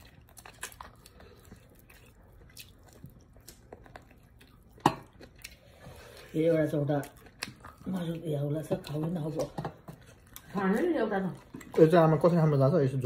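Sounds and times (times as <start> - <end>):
soft wet chewing: 0.0 - 13.0.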